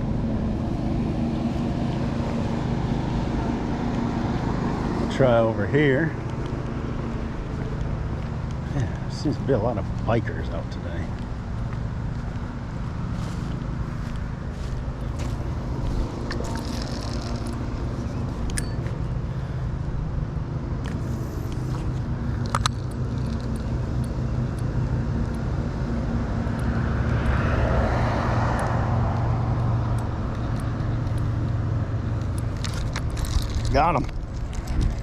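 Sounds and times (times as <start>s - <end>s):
car passing: 0.0s - 35.0s
road traffic rumble: 0.0s - 35.0s.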